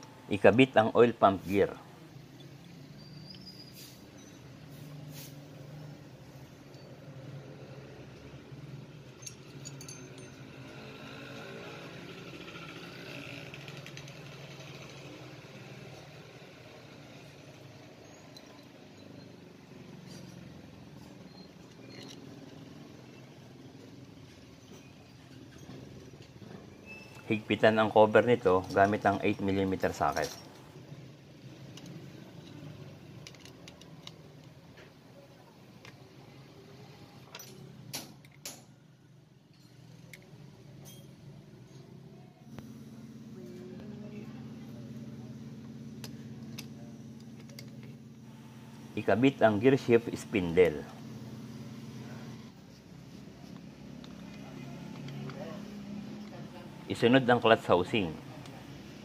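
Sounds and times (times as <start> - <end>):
faint engine running: 1.5 - 59.0.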